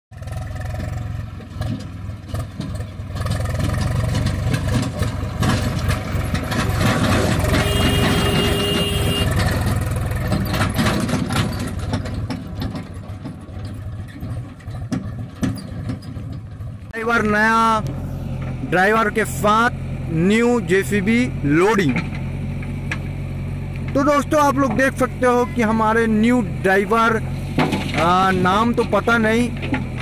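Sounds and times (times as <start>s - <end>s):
tractor diesel engine driving by: 0.1s - 30.0s.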